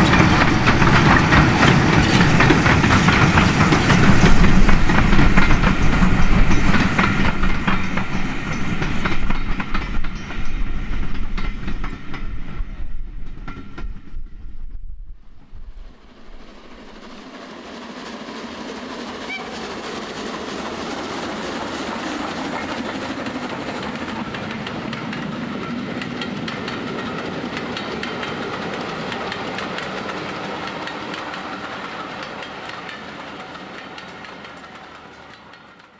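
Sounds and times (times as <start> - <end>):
train wheels clicking over rails: 0.0 - 14.2, 15.9 - 35.9.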